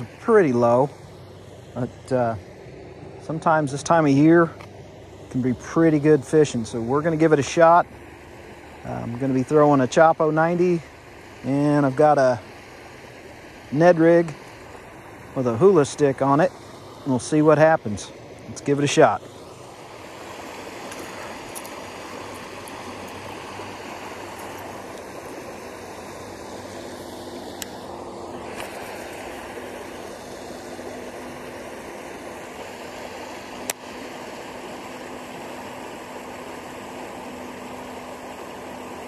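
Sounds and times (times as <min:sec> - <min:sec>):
creek water running: 0:00.0 - 0:39.0.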